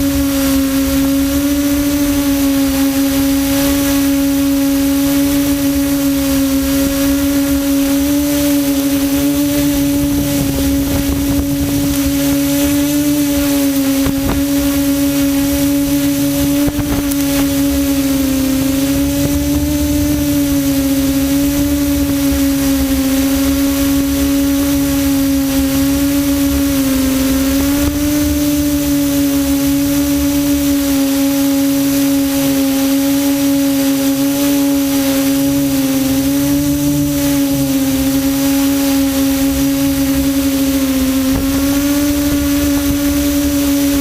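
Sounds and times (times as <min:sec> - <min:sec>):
quadcopter motors humming: 0:00.0 - 0:44.0.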